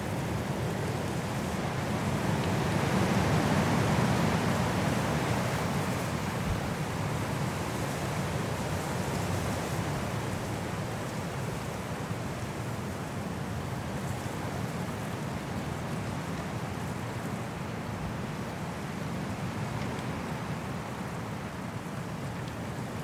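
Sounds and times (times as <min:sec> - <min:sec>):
high wind through trees: 0:00.0 - 0:23.0.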